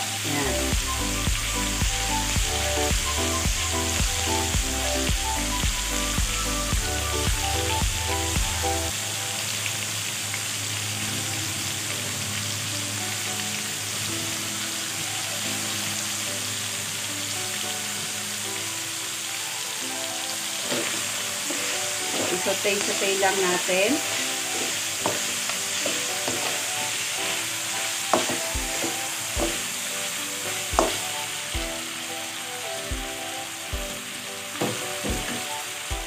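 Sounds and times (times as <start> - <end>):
background music: 0.0 - 36.0
chicken sizzling in a pan: 0.0 - 36.0.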